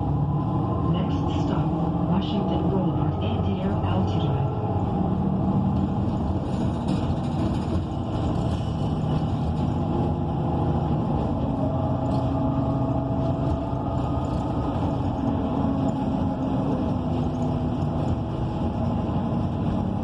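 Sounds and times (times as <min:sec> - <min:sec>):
bus engine running: 0:00.0 - 0:20.0.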